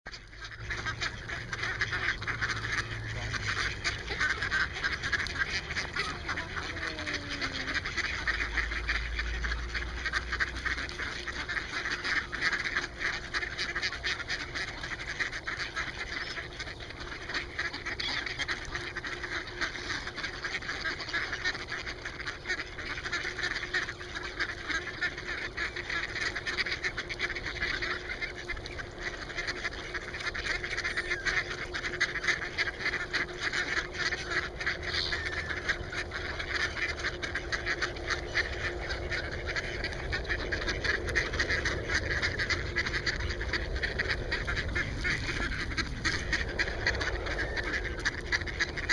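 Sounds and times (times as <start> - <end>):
ducks quacking: 0.1 - 48.9.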